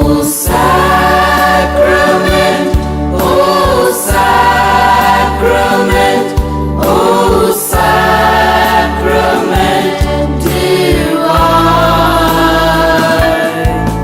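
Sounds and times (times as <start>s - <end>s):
choir singing held notes: 0.0s - 14.0s
low accompaniment: 0.0s - 14.0s.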